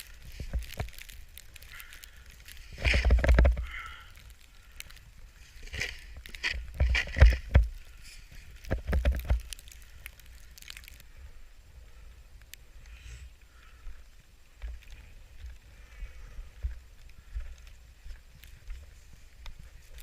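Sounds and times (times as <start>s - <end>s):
snow crunching and squishing: 0.0s - 11.5s, 14.4s - 20.0s.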